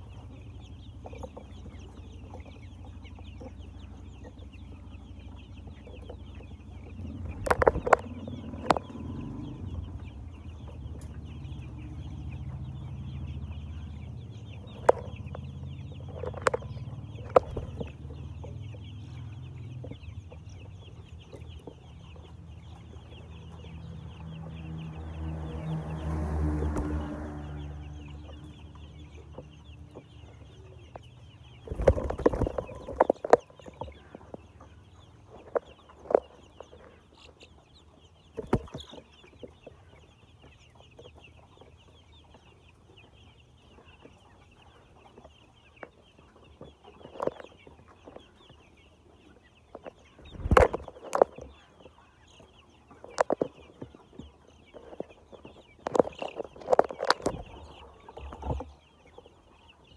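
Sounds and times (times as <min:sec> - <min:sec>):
chickens chattering: 0:00.0 - 0:59.9
chickens clucking: 0:00.0 - 0:59.9.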